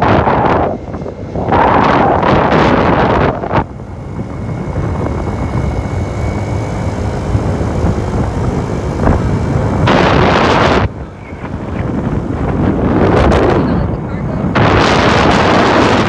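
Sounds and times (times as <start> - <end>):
faint thin whine: 0.0 - 14.5
low rumble: 0.0 - 16.0
wind buffeting microphone: 0.0 - 16.0.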